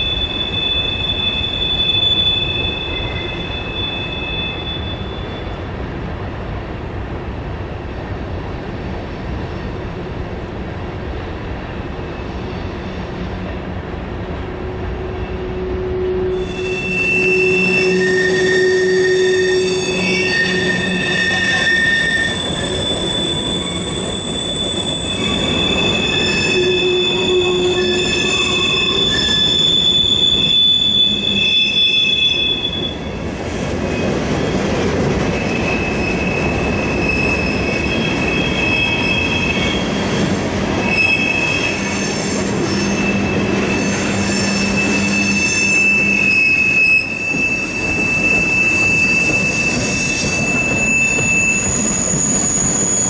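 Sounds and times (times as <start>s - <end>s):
train wheels squealing on rails: 0.0s - 6.0s, 11.1s - 53.0s
train rolling past: 0.0s - 53.0s.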